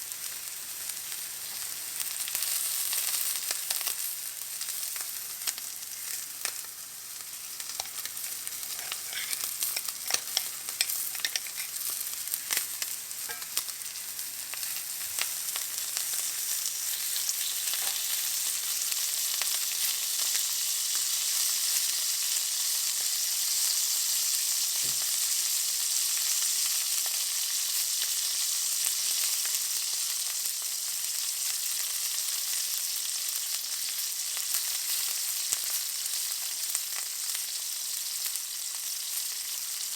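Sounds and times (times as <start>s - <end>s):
steak sizzling in a pan: 0.0s - 39.9s.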